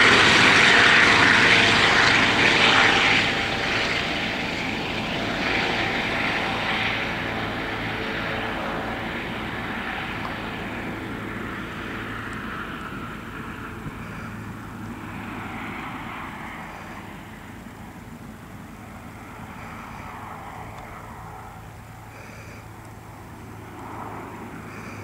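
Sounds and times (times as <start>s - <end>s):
helicopter rotor and turbine: 0.0s - 25.0s.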